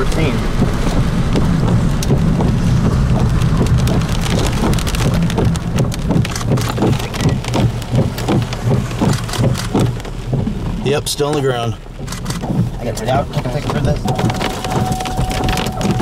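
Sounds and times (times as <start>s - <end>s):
rain tapping on vehicle: 0.0s - 16.0s
wind rumbling across microphone: 0.0s - 16.0s.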